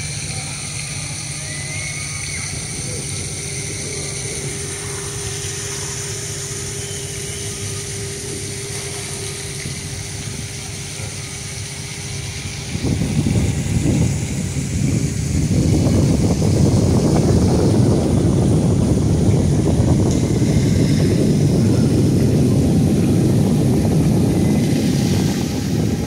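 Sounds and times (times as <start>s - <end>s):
faint steady hum: 0.0s - 26.0s
low engine rumble: 0.0s - 26.0s
wind buffeting microphone: 0.0s - 26.0s.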